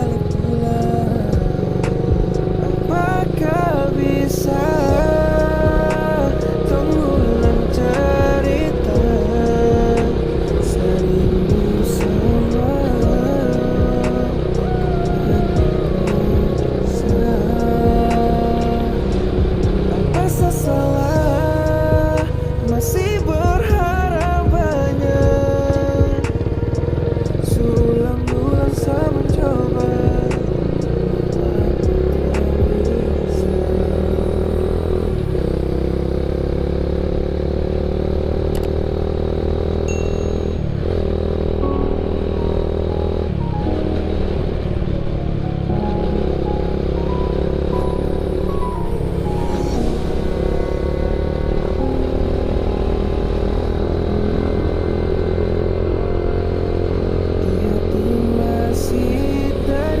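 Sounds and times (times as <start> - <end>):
low wind rumble: 0.0 - 37.9, 38.5 - 60.0
motorcycle engine running: 0.0 - 60.0.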